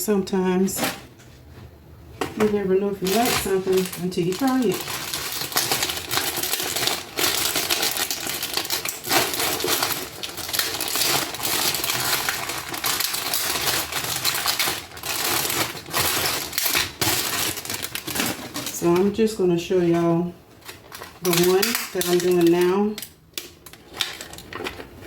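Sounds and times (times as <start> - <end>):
clicking and crinkling handling noise: 0.8 - 19.2, 19.9 - 25.0.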